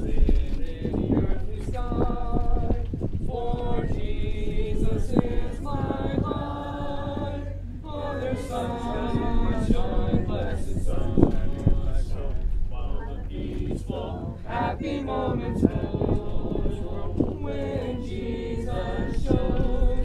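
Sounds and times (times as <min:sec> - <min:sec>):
person singing unaccompanied: 0:00.0 - 0:20.0
steady low hum: 0:00.0 - 0:20.0.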